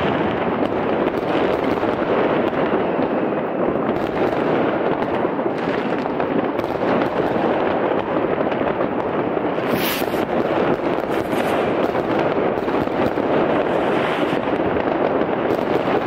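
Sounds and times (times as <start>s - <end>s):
fireworks crackling and popping: 0.0s - 16.0s.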